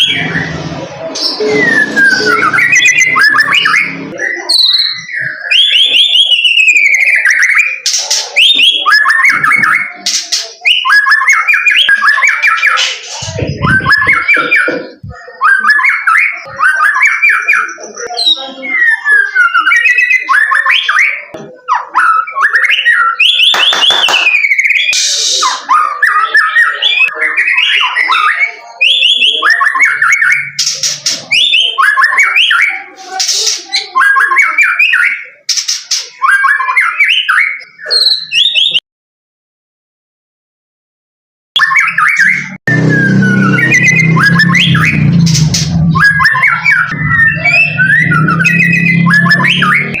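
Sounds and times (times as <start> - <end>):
bird singing whistled phrases: 1.2 - 38.8, 41.6 - 45.1, 45.7 - 50.0.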